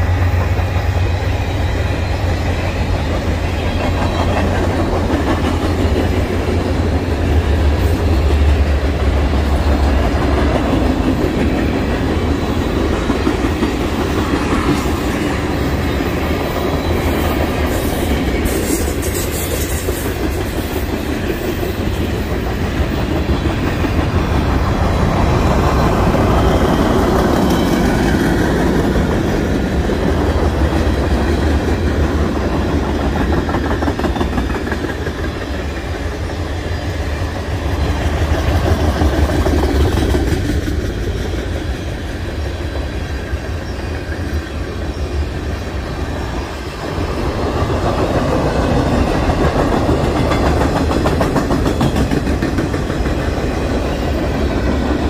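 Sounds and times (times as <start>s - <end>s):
train wheels rumbling: 0.0s - 55.0s
wheels clattering on rail joints: 0.0s - 55.0s.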